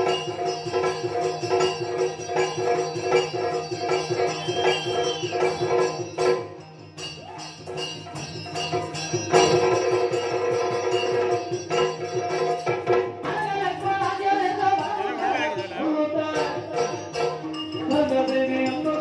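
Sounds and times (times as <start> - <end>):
drum strokes: 0.0 - 19.0
jingling hand cymbals: 0.0 - 19.0.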